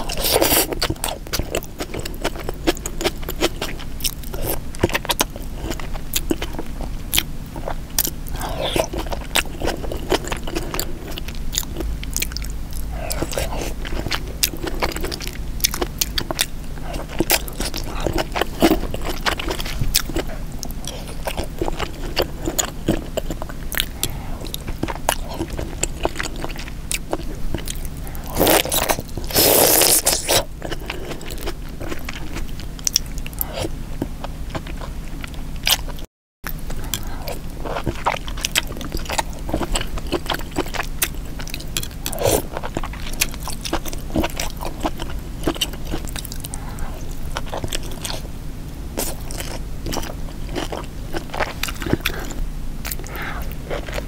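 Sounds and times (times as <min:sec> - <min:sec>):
wet chewing: 0:00.0 - 0:48.3, 0:48.9 - 0:54.0.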